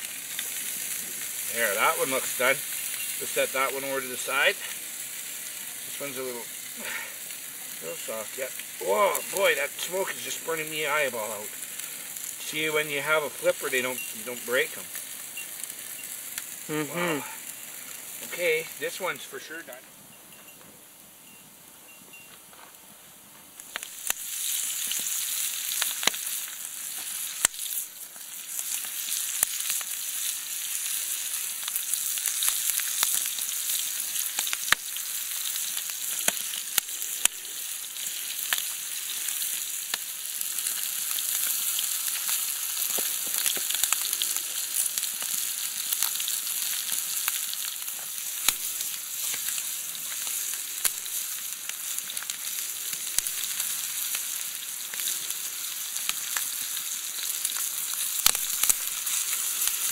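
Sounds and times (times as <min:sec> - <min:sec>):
fish sizzling in a pan: 0:00.0 - 0:19.8, 0:23.5 - 0:59.9.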